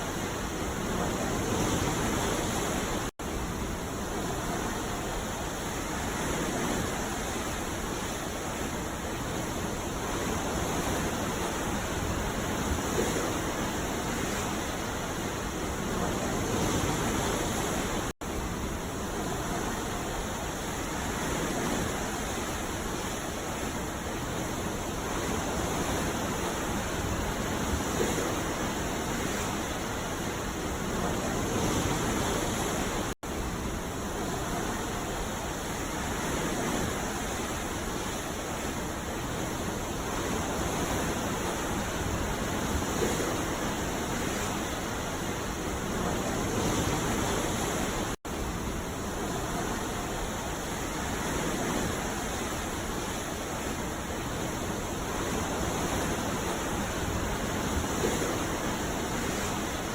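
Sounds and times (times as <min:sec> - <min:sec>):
sea waves rushing: 0:00.0 - 0:59.9.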